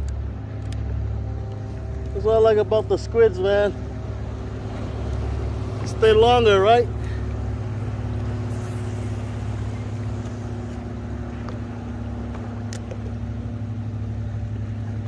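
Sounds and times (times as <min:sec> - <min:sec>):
boat motor humming: 0:00.0 - 0:15.0
water wash rumbling: 0:01.8 - 0:15.0.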